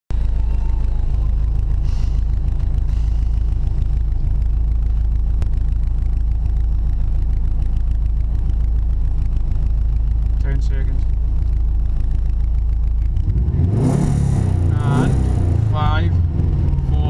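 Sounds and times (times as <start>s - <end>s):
car engine idling: 0.1s - 17.0s.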